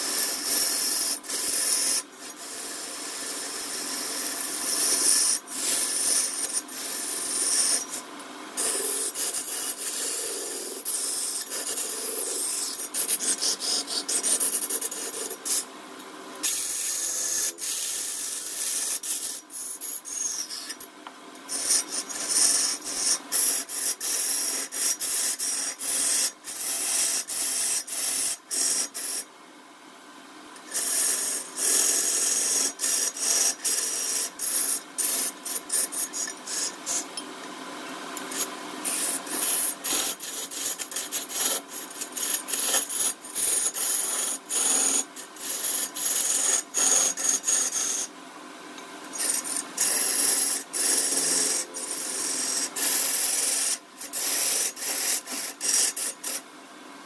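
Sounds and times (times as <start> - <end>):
lathe tool scraping spinning wood: 0.0 - 8.0, 8.6 - 15.6, 16.4 - 20.9, 21.5 - 29.2, 30.6 - 37.2, 38.2 - 48.1, 49.1 - 56.4.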